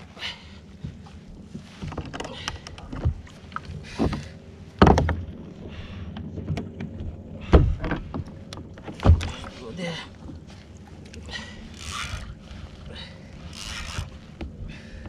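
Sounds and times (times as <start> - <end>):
water and wind hiss: 0.0 - 15.0.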